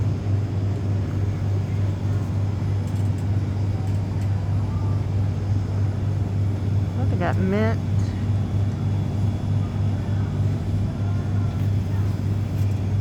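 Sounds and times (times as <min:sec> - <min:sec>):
steady low hum: 0:00.0 - 0:13.0
store background noise: 0:00.0 - 0:13.0.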